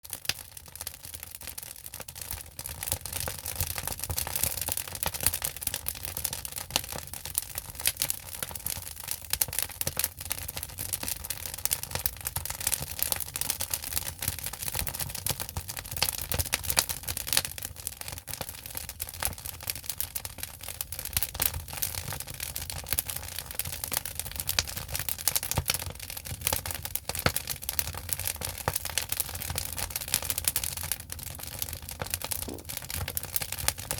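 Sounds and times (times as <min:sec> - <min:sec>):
wood fire crackling and popping: 0:00.1 - 0:33.9.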